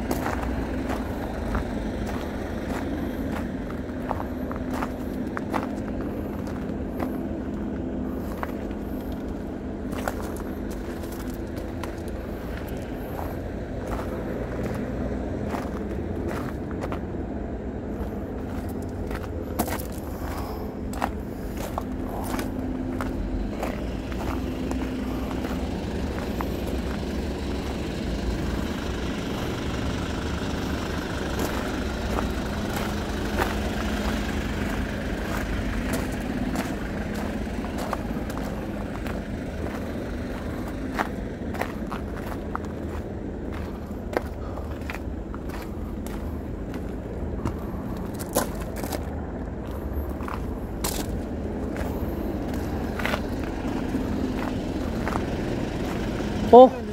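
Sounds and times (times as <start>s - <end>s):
vehicle engine idling: 0.0s - 56.9s.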